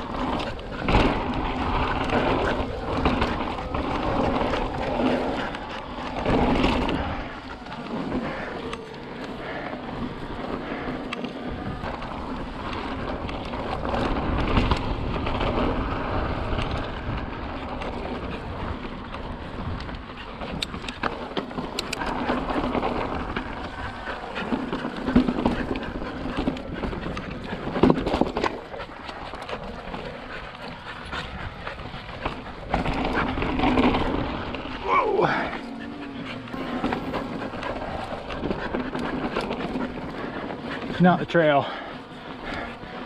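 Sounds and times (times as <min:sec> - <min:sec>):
bike rattling and knocking: 0:00.0 - 0:43.0
bike tyre rolling on rock: 0:00.0 - 0:43.0.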